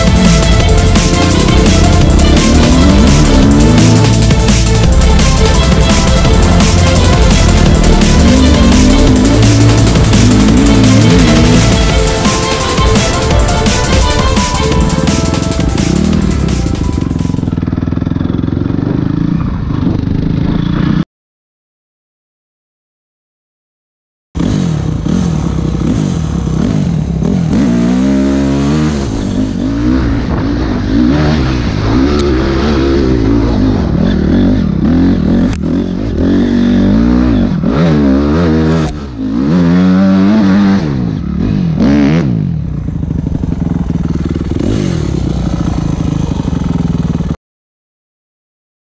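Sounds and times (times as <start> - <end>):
motorcycle engine revving: 0.0 - 21.0, 24.4 - 47.4.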